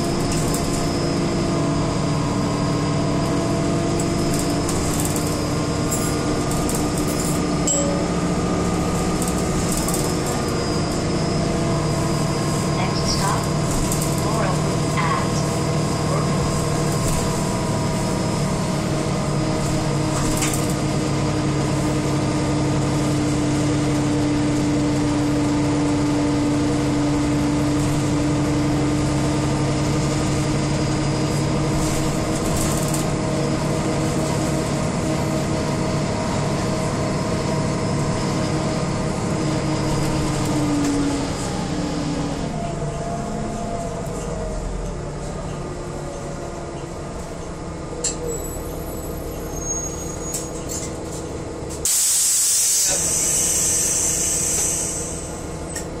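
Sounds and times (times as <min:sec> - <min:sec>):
bus engine drone and whine: 0:00.0 - 0:56.0.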